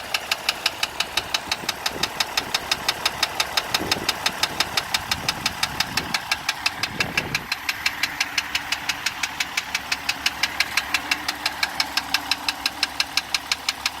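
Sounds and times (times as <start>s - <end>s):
diesel engine knocking: 0.0s - 14.0s.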